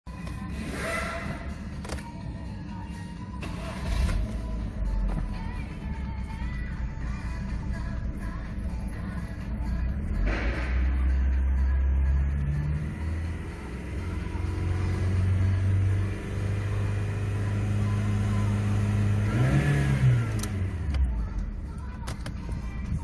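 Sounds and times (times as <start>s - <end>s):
car engine running and revving: 0.1s - 23.0s.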